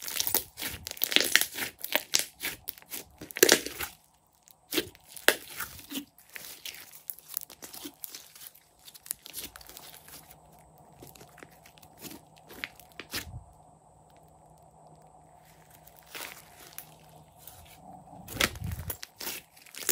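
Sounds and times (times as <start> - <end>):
slime crackling and popping: 0.0 - 13.3, 14.1 - 17.6, 18.3 - 19.9.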